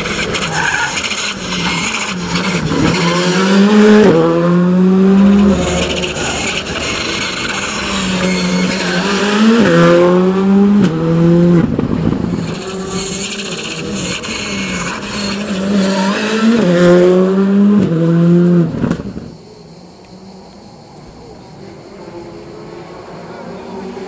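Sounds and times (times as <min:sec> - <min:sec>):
rally car accelerating hard: 0:00.0 - 0:19.3.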